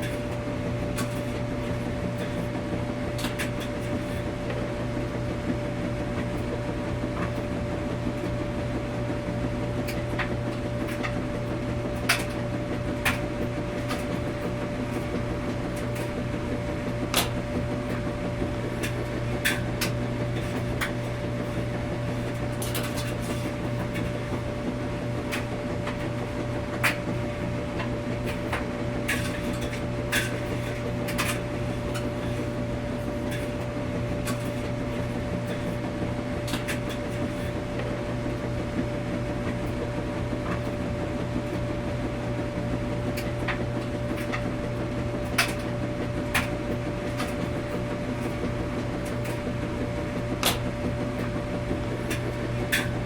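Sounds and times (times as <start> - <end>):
washing machine humming: 0.0 - 53.0.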